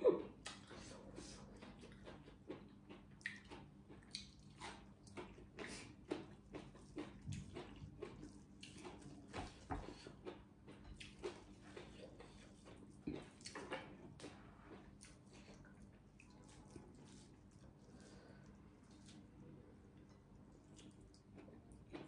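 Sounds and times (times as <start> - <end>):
wet chewing and lip smacks: 0.4 - 22.0.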